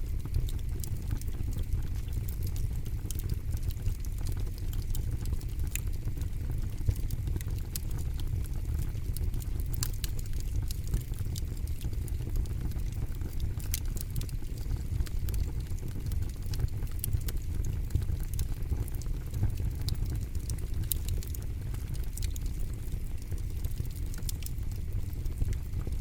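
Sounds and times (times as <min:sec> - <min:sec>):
burning wood crackling and popping: 0:00.0 - 0:26.0
campfire flames rumbling: 0:00.0 - 0:26.0.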